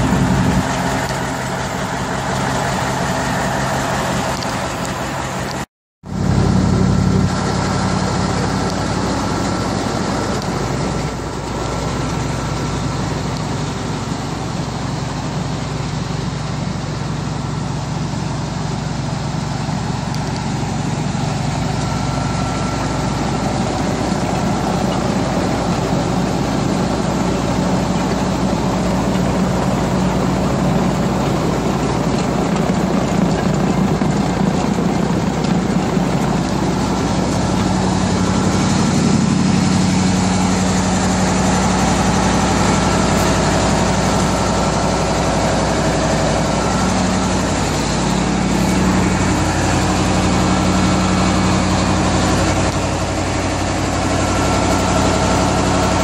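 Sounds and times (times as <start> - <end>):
milling machine diesel engine drone: 0.0 - 56.0.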